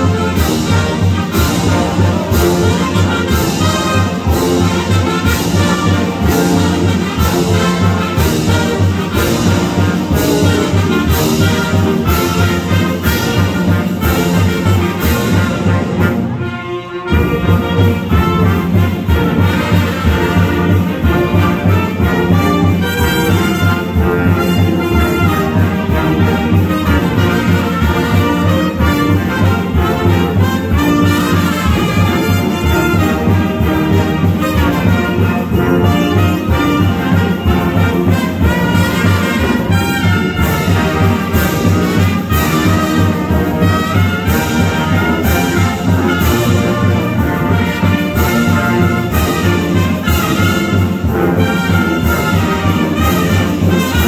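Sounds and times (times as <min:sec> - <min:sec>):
percussion beat: 0:00.0 - 0:16.2, 0:17.1 - 0:54.0
brass band playing: 0:00.0 - 0:54.0.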